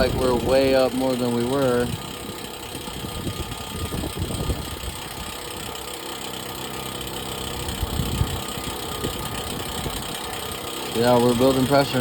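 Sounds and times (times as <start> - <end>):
air compressor running: 0.0 - 12.0
truck engine idling: 0.0 - 12.0.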